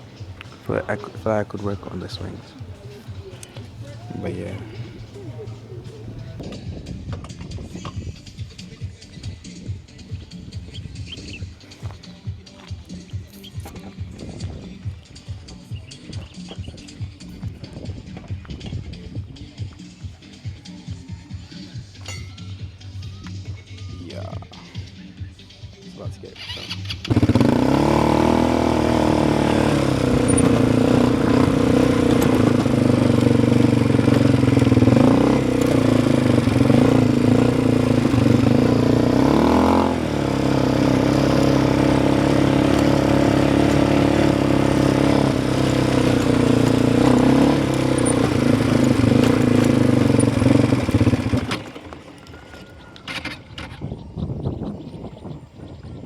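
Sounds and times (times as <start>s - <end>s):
quad bike engine running: 0.0s - 19.9s, 26.2s - 55.9s.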